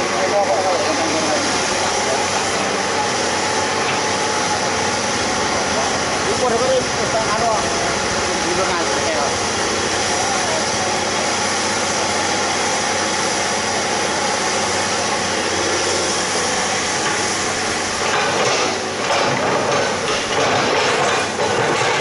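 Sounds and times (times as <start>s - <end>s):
loud even hiss: 0.0s - 19.1s
diesel engine running: 0.0s - 22.0s.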